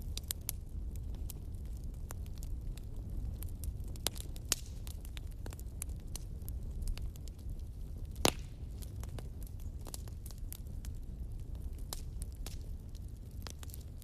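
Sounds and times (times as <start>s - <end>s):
fire pops and snaps: 0.0s - 14.0s
wood fire crackling: 0.0s - 14.0s.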